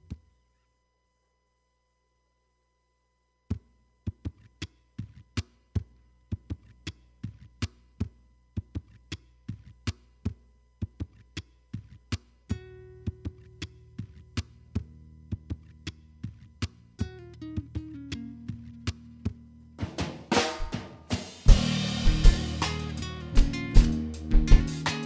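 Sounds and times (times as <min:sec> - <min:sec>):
low electrical hum: 0:00.0 - 0:19.8, 0:21.3 - 0:24.9.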